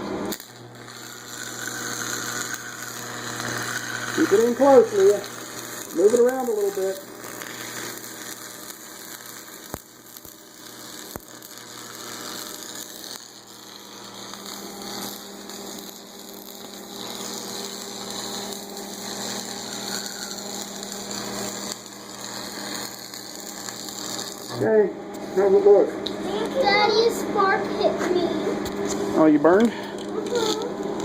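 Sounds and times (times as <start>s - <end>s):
welding arc crackling and hissing: 0.0s - 31.0s.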